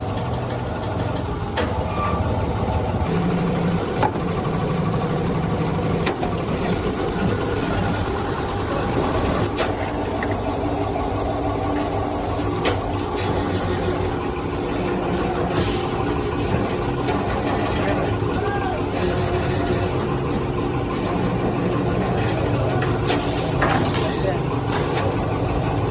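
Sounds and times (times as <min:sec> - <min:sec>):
hydraulic press motor hum: 0:00.0 - 0:25.9.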